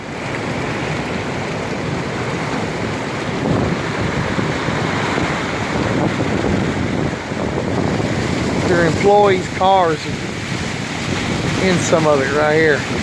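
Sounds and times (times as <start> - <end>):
vehicle driving through floodwater: 0.0 - 13.0.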